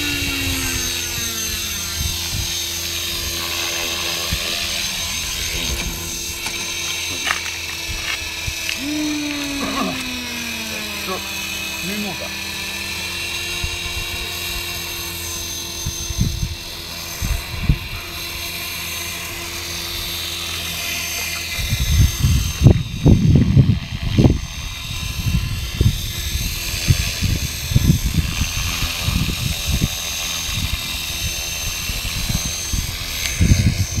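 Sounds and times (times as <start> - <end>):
rc helicopter motor whine: 0.0 - 34.0.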